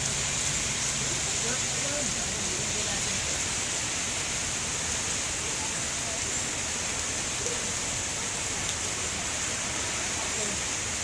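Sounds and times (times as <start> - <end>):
steady rainfall hiss: 0.0 - 11.0.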